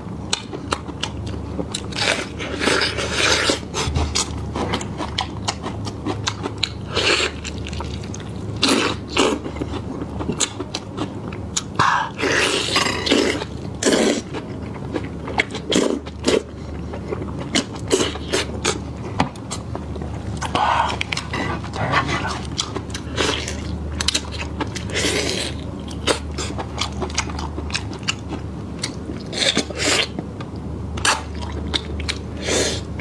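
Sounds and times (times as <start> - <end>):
person chewing and biting: 0.3 - 30.2.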